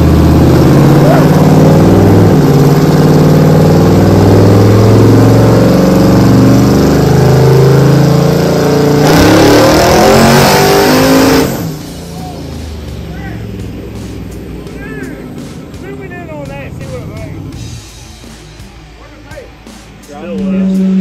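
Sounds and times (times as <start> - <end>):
engine running at full throttle: 0.0 - 17.7.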